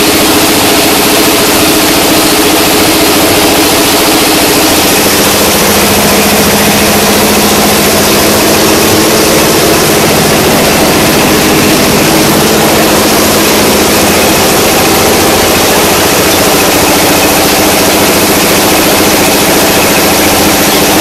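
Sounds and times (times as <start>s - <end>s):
brick extruder machine drone: 0.0s - 21.0s.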